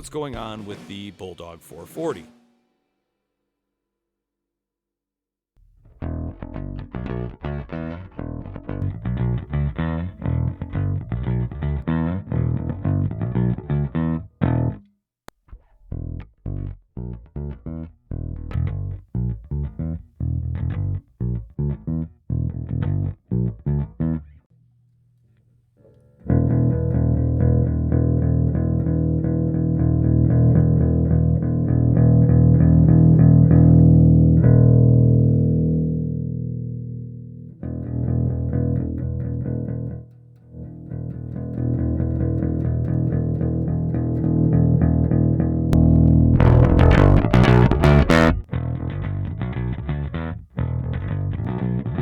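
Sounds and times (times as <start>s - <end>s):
plucked electric bass notes: 5.6s - 14.9s, 15.5s - 24.5s, 26.2s - 52.0s.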